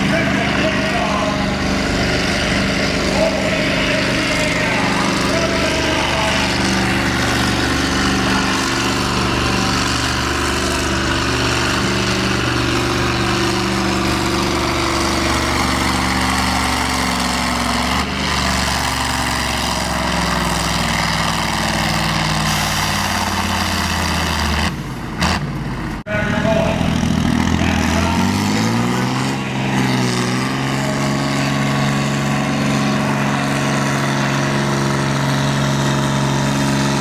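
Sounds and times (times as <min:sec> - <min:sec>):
tractor engine running loud: 0:00.0 - 0:37.0.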